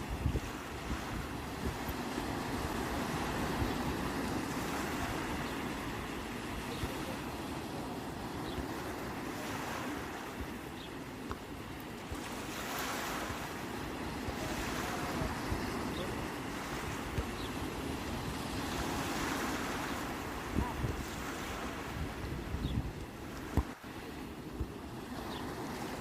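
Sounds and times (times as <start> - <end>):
wind rumbling on microphone: 0.0 - 10.9, 11.5 - 26.0
sea waves washing on shore: 0.0 - 26.0.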